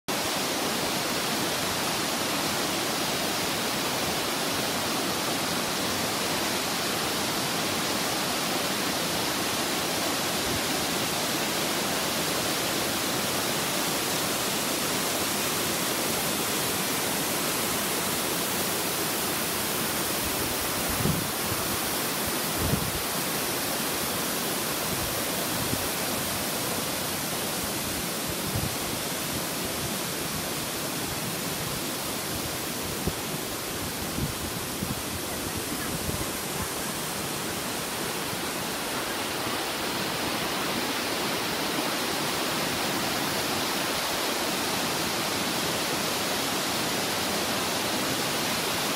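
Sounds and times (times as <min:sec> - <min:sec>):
waterfall rushing over rocks: 0:00.1 - 0:48.9.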